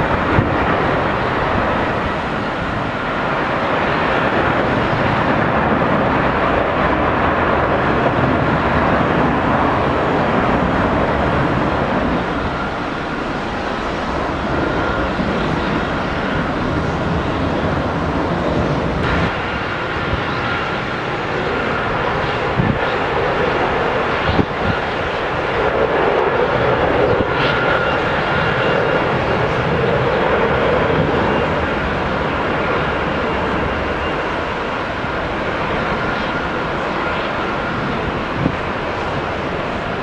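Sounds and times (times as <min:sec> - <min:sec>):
jet engines rushing: 0:00.0 - 0:40.0.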